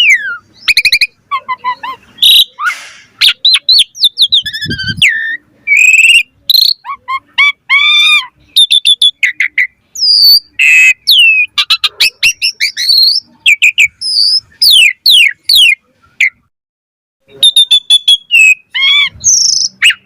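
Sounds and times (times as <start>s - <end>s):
starling singing: 0.0s - 16.5s, 17.2s - 20.0s.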